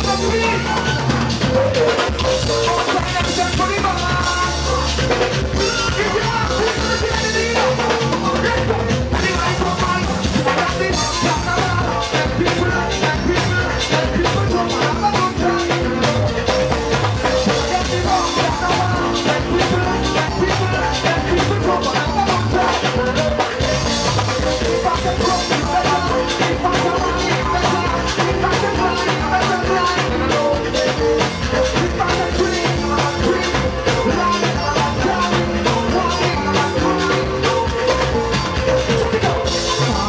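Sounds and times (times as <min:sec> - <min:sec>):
band music: 0:00.0 - 0:40.0
steady drum beat: 0:00.0 - 0:40.0.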